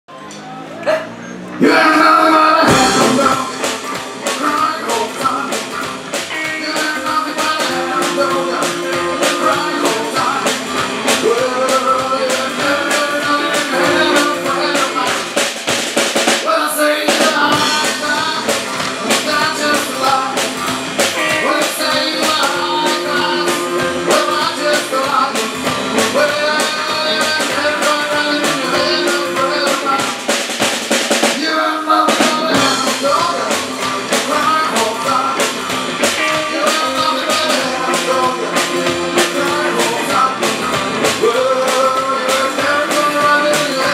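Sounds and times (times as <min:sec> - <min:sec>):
electric guitar: 0:00.2 - 0:43.9
person singing: 0:00.5 - 0:15.5, 0:16.4 - 0:30.4, 0:31.3 - 0:43.9
drum kit beat: 0:01.6 - 0:43.9.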